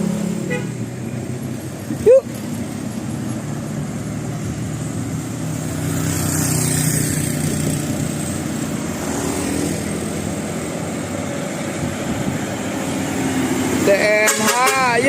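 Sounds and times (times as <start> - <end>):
road noise: 0.0 - 15.0
vehicle engine droning: 0.0 - 15.0.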